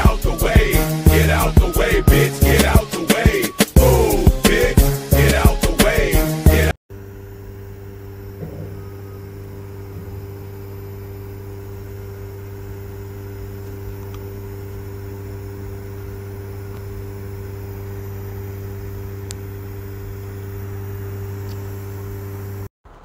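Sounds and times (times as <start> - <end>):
low machine hum: 0.0 - 3.2, 6.9 - 23.0.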